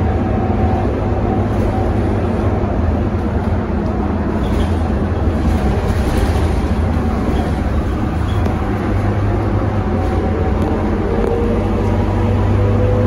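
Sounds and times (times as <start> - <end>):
diesel bus engine drone: 0.0 - 13.0
road and tyre noise: 0.0 - 13.0.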